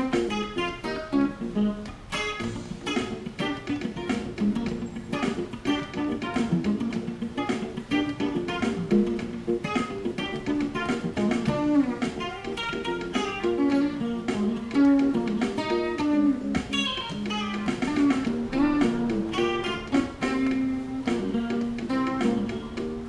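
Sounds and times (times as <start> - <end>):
electric guitar funk line: 0.0 - 23.0
funk backing track: 0.0 - 23.0.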